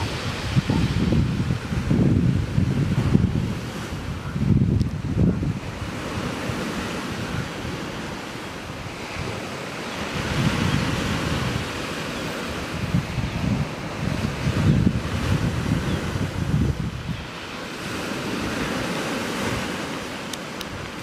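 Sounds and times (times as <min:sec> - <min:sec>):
surf hiss: 0:00.0 - 0:21.0
wind buffeting microphone: 0:00.0 - 0:21.0.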